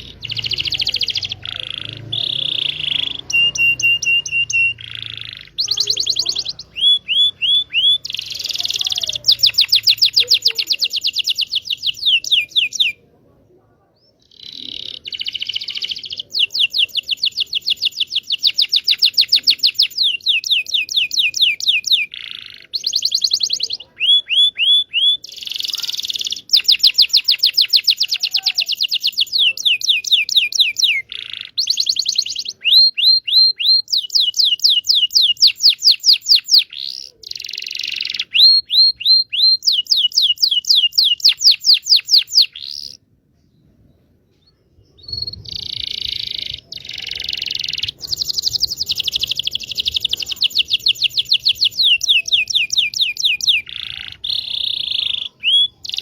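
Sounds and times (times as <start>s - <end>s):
canary singing trills: 0.0s - 13.2s, 14.0s - 56.0s.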